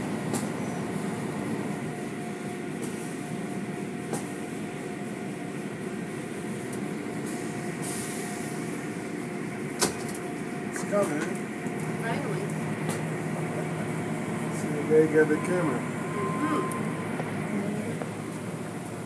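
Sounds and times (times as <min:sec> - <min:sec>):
faint machinery hum: 0:00.0 - 0:19.0.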